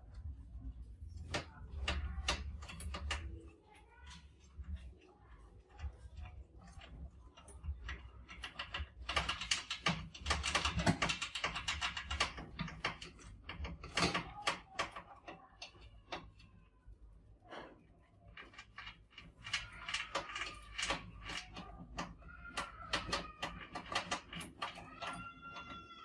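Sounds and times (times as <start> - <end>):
mice claws scratching on wire mesh: 1.2 - 16.3, 18.3 - 26.0.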